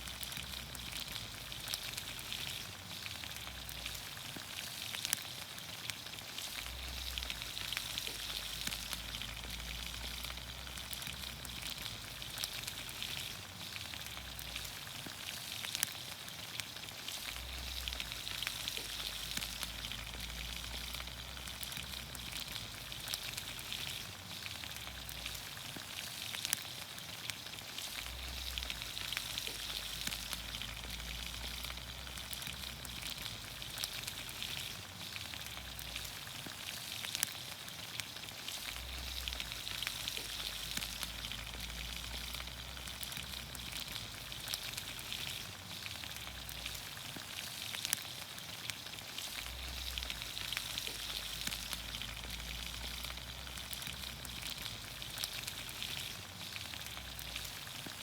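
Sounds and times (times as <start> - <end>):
vegetables sizzling in a pan: 0.0 - 58.0.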